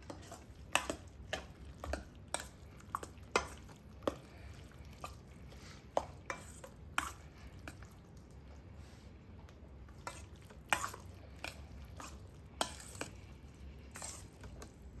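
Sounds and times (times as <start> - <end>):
utensil stirring pasta: 0.0 - 15.0.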